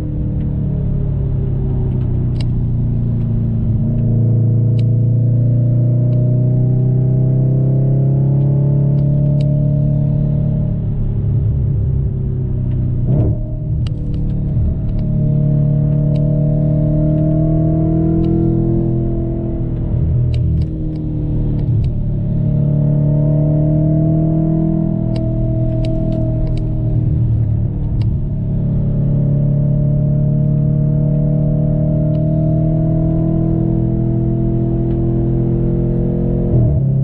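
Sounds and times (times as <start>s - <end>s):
car engine from inside cabin: 0.0s - 37.0s.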